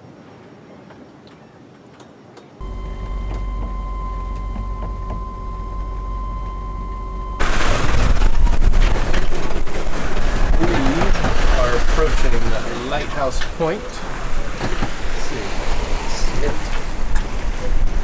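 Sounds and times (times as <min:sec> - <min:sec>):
rush of wind and water: 0:00.0 - 0:06.2, 0:06.9 - 0:18.0
thin steady hum: 0:02.6 - 0:17.7
wind buffeting microphone: 0:02.6 - 0:18.0.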